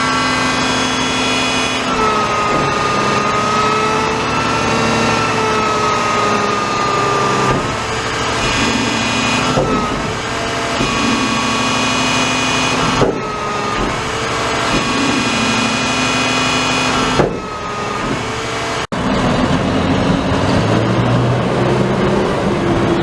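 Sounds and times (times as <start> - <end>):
garbage truck whining: 0.0 - 23.0.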